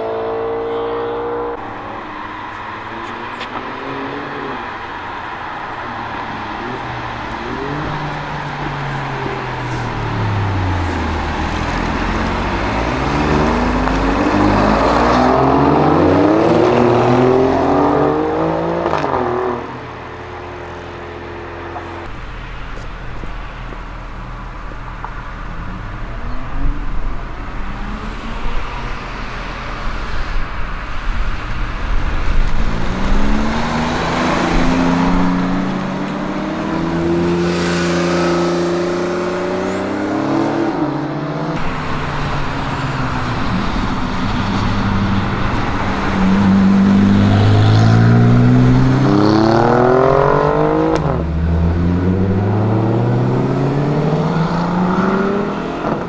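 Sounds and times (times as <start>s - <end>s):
car engine accelerating hard: 0.0s - 19.8s, 21.2s - 56.0s
sports cars pulling away: 0.0s - 56.0s.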